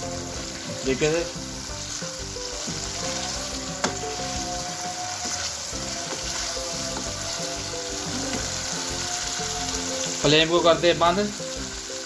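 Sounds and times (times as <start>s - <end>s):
background music: 0.0s - 12.0s
food sizzling in a wok: 0.0s - 12.0s.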